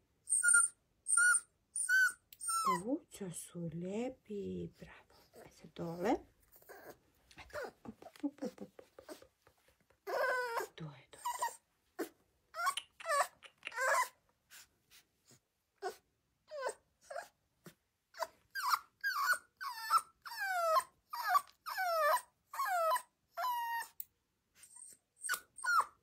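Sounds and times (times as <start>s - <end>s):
puppy whining: 0.0s - 2.9s, 5.2s - 26.0s.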